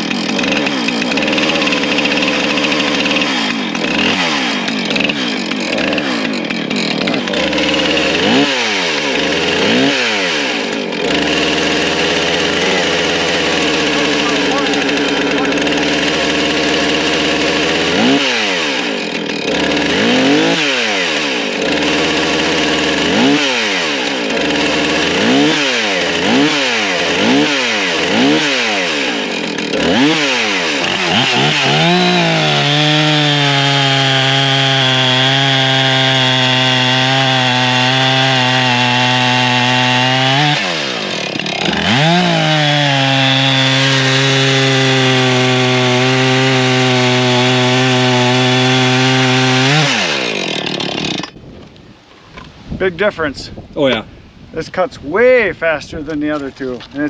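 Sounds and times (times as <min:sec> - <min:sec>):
chainsaw revving and cutting: 0:00.0 - 0:51.4.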